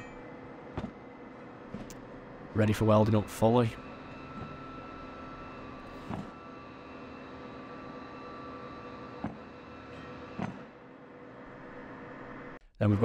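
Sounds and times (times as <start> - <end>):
faint steady tones: 0.0 - 13.0
workshop hum: 0.0 - 13.0.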